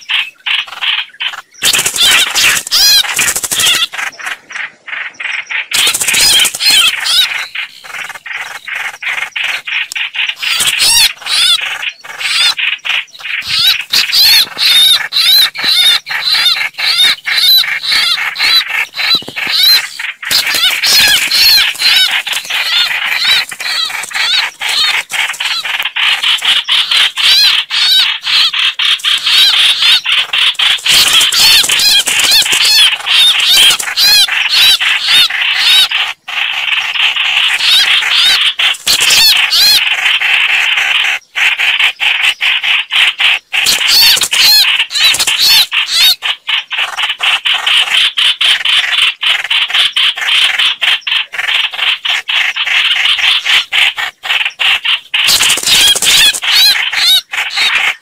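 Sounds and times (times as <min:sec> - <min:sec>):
bird harsh chattering: 0:00.0 - 0:58.0
sharp bird clicks: 0:00.0 - 0:58.0.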